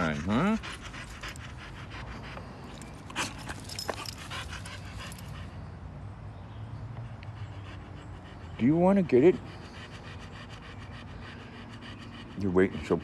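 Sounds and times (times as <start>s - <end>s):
dog panting fast: 0.0s - 5.6s, 7.2s - 13.0s.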